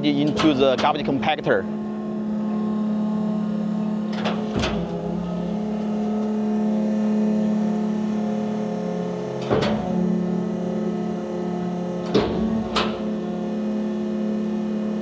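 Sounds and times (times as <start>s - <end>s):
hydraulic compactor running with hum: 0.0s - 15.0s.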